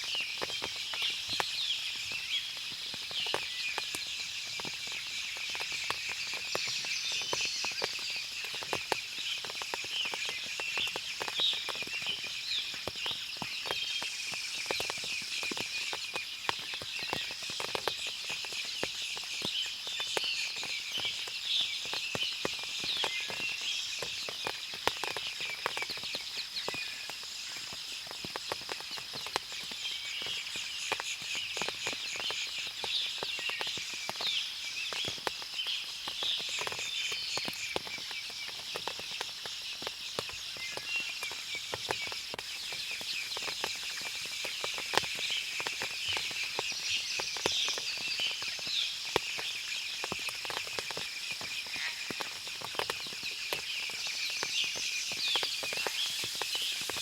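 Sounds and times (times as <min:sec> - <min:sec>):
birds and insects chirping: 0:00.0 - 0:57.0
small ticks: 0:00.0 - 0:57.0.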